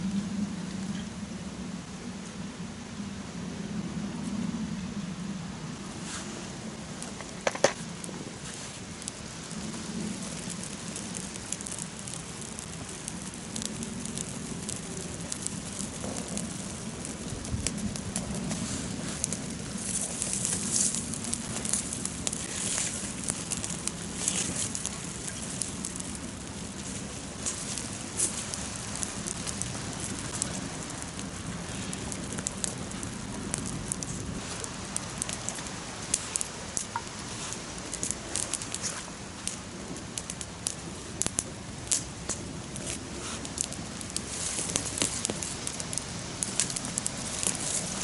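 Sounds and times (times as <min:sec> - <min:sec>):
campfire crackling and popping: 0:05.6 - 0:48.0.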